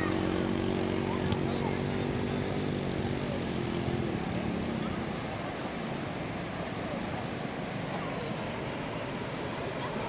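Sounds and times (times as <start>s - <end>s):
engine drone: 0.0s - 10.0s
surf: 0.0s - 10.0s
wind: 0.0s - 10.0s.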